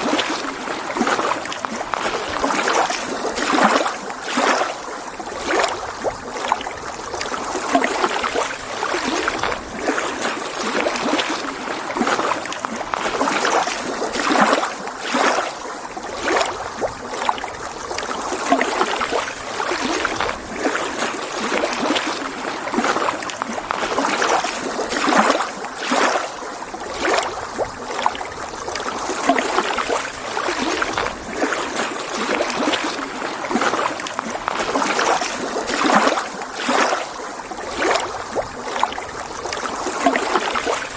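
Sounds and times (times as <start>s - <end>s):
waves lapping on shore: 0.0s - 40.9s.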